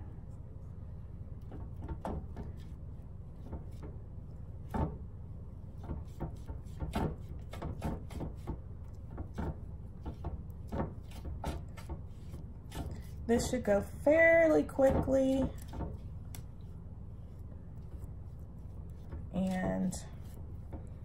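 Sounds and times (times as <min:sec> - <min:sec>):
paintbrush dabbing on glass: 0:01.3 - 0:21.0.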